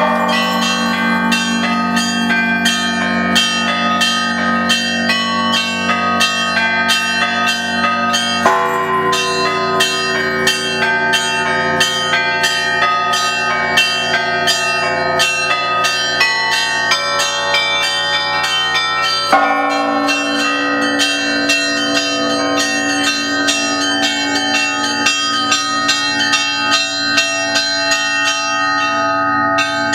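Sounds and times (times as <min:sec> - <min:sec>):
small bells struck rapidly: 0:00.0 - 0:29.0
large bells ringing: 0:00.0 - 0:29.9.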